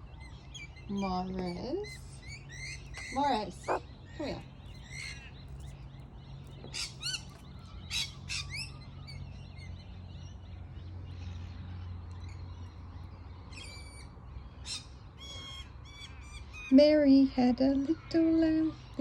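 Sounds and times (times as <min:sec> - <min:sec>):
birds chirping: 0:00.0 - 0:19.0
low steady hum: 0:00.0 - 0:19.0.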